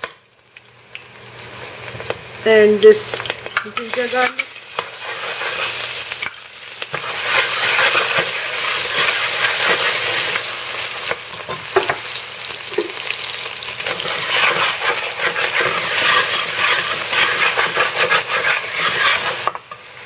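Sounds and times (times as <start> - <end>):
spices sizzling in hot oil: 0.0 - 20.0.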